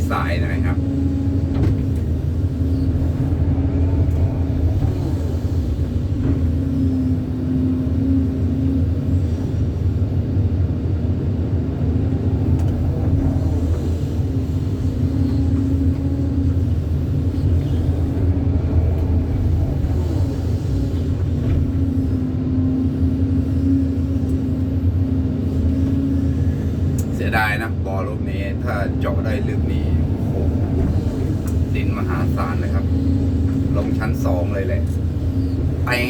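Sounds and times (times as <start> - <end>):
excavator diesel engine rumbling: 0.0 - 36.0.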